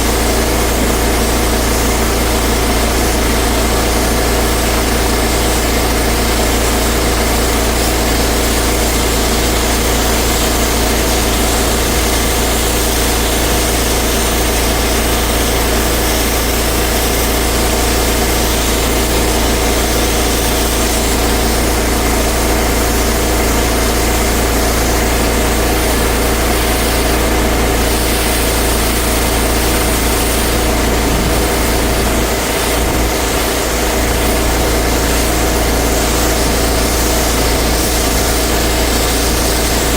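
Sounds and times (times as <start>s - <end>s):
pressure washer engine running: 0.0s - 39.9s
water spray hiss: 0.0s - 39.9s.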